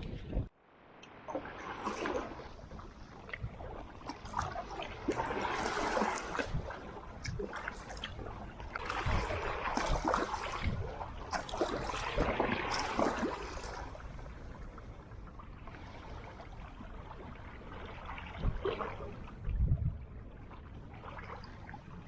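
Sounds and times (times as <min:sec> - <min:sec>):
water splashing around a kayak: 0:00.0 - 0:22.0.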